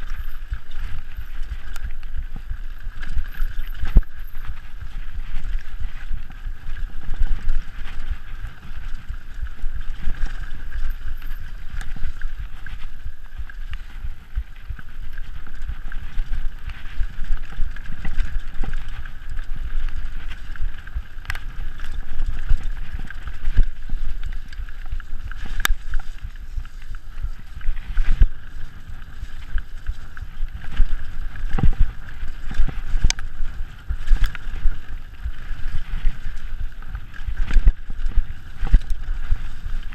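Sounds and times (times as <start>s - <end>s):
bike chain and frame rattling: 0.0s - 39.9s
bike tyres on loose dirt: 0.0s - 39.9s
constant low rumble: 0.0s - 39.9s.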